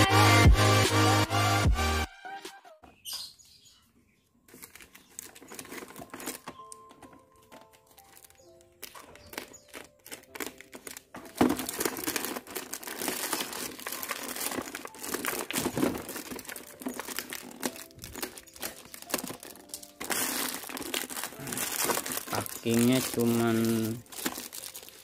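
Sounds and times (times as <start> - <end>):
plastic bag and tape crinkling: 4.5 - 25.0.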